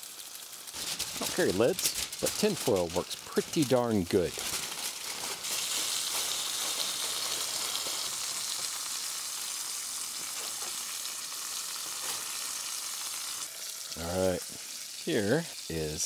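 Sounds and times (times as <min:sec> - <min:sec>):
steak sizzling in a frying pan: 0:00.0 - 0:16.0.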